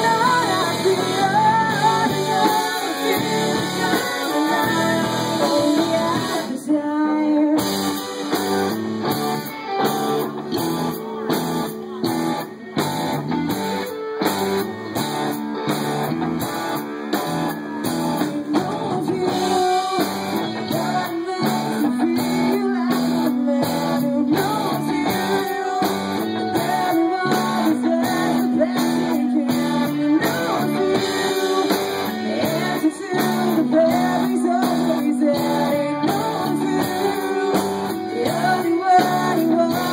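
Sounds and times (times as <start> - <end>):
guitar: 0.0 - 39.9
live band playing: 0.0 - 39.9.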